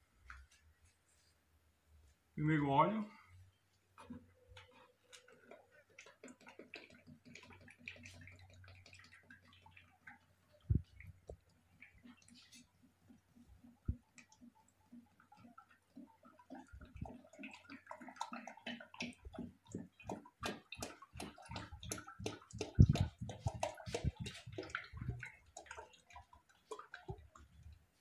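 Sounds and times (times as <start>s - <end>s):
oil glugging and splashing into bucket: 4.0s - 28.0s.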